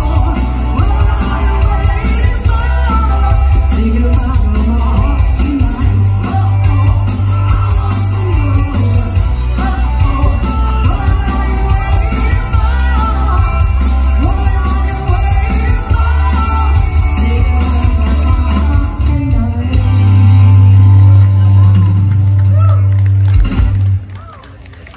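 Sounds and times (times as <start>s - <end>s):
woman singing: 0.0s - 20.2s
live rock band: 0.0s - 24.9s.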